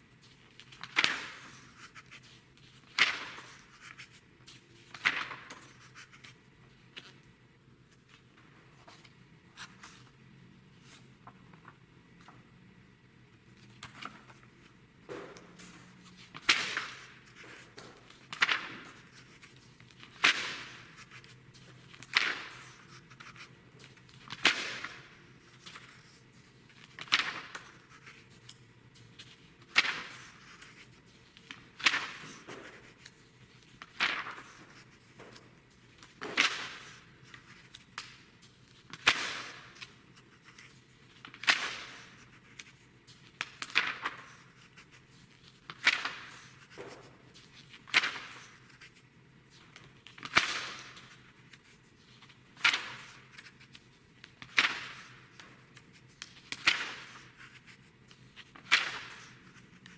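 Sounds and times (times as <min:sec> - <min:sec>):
magazine pages turning: 0:00.2 - 0:07.2, 0:13.5 - 0:59.9.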